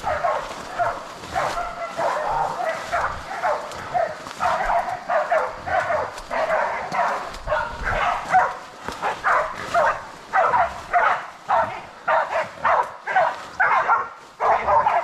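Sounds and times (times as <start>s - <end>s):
dogs barking: 0.0s - 15.0s.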